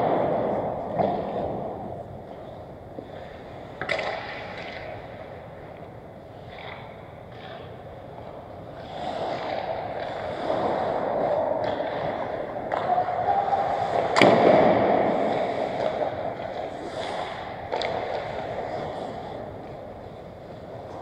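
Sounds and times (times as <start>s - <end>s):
skates scraping on ice: 0.0s - 21.0s
stick and puck clacks: 0.0s - 21.0s.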